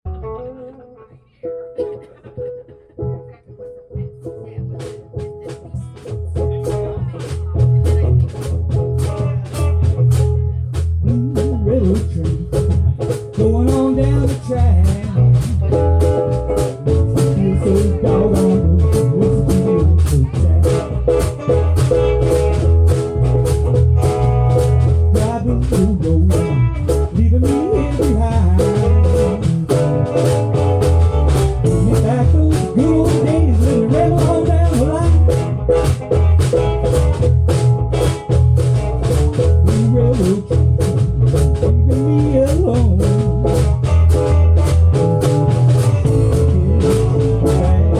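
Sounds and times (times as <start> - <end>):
live band playing: 0.0 - 47.9.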